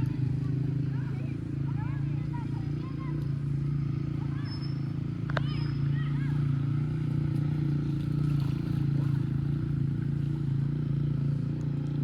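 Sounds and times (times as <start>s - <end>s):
engine droning with fast pulse: 0.0s - 12.0s.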